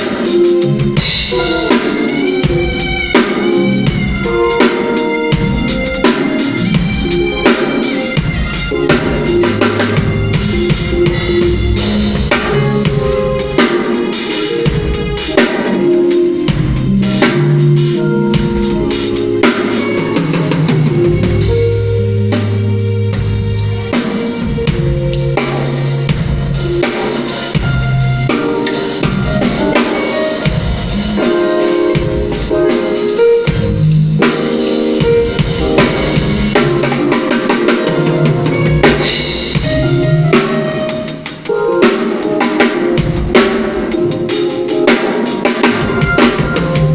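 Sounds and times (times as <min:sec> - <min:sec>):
bass and chord notes: 0:00.0 - 0:46.9
drum kit beat: 0:00.0 - 0:46.9.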